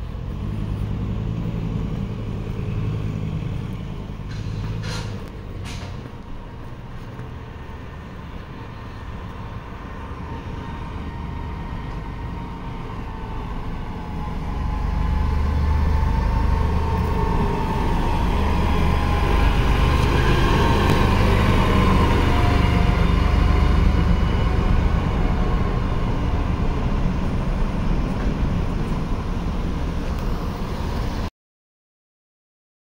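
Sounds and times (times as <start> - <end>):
road train engine rumble with whine: 0.0 - 31.3.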